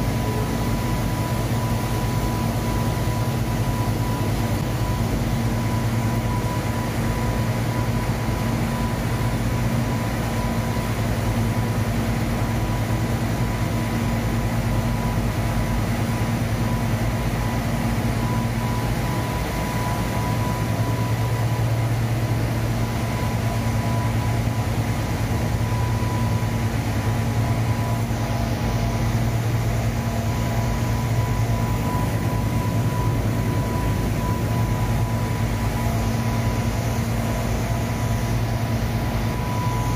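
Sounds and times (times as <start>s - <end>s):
machine hum with high whine: 0.0s - 39.9s.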